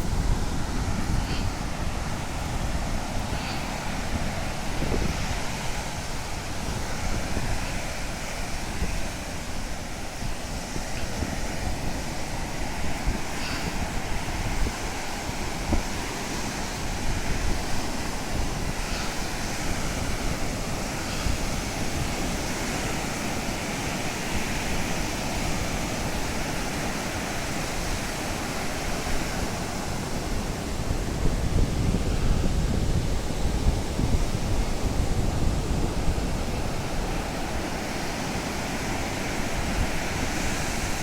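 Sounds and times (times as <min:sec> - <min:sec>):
sea surf washing on beach: 0:00.0 - 0:41.0
wind buffeting microphone: 0:00.0 - 0:41.0.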